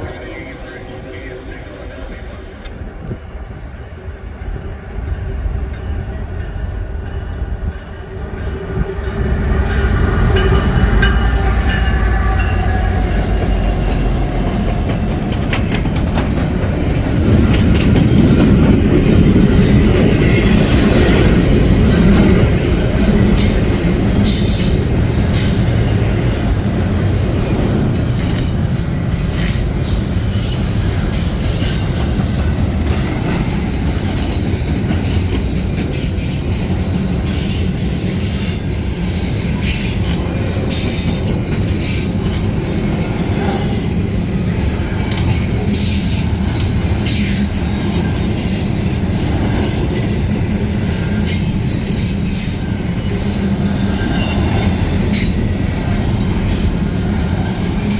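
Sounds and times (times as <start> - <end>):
steel wheels rumbling on rail: 2.4 - 57.9.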